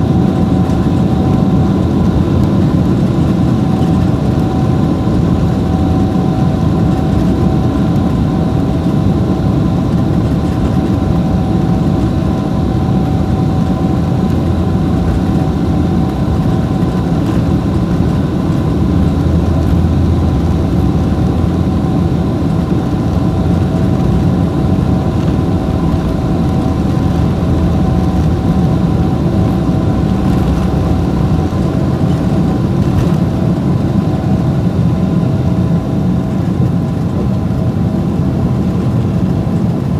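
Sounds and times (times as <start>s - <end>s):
jet engine and airflow noise: 0.0s - 39.9s.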